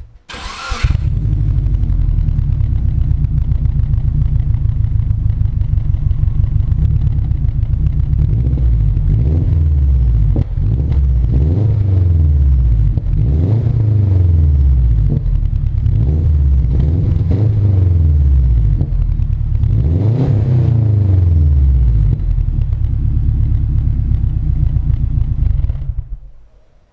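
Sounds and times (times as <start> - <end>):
car engine idling and revving: 0.3 - 26.6.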